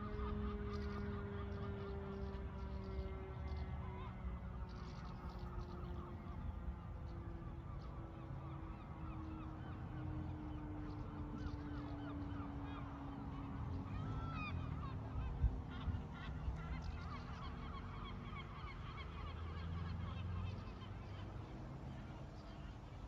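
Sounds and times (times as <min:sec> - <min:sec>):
birds calling: 0:00.1 - 0:23.0.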